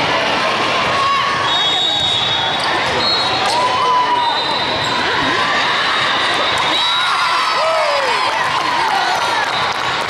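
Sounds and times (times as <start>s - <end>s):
crowd cheering and shouting: 0.0s - 10.0s.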